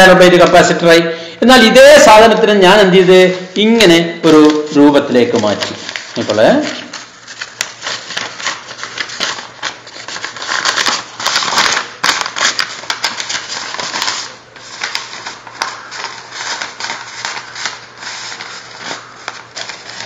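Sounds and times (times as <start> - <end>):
paper rustling and crinkling: 2.7 - 20.0.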